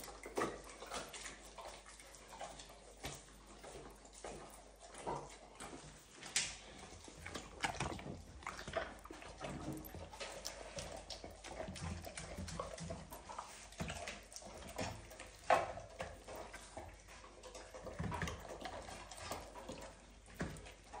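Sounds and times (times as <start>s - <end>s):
dog chewing wet food: 0.0s - 21.0s.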